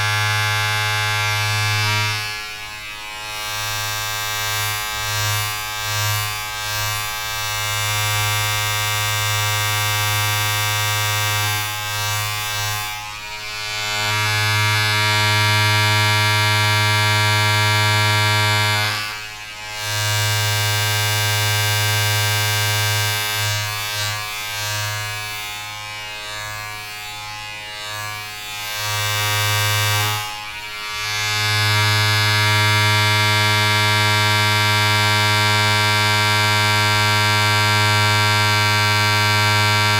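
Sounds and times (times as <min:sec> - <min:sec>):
buzzy drone: 0:00.0 - 0:39.9.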